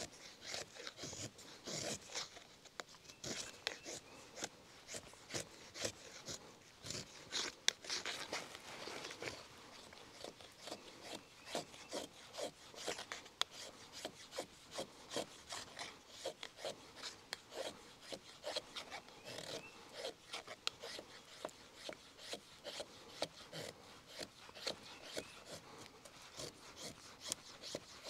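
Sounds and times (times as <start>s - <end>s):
hatchet scraping wood: 0.0s - 28.0s.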